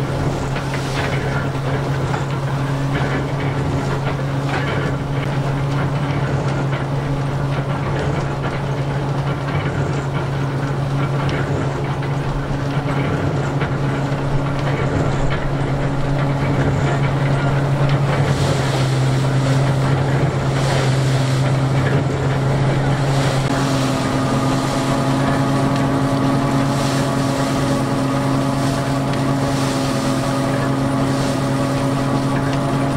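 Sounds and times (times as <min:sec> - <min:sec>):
threshing machine humming drone: 0:00.0 - 0:32.9.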